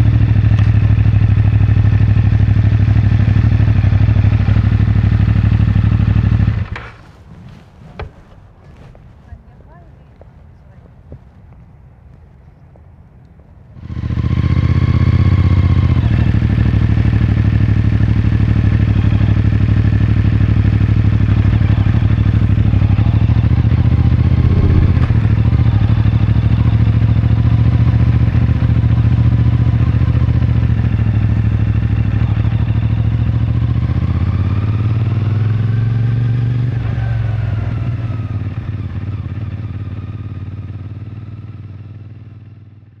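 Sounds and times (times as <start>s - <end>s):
motorcycle engine running: 0.0s - 8.9s, 13.8s - 43.0s.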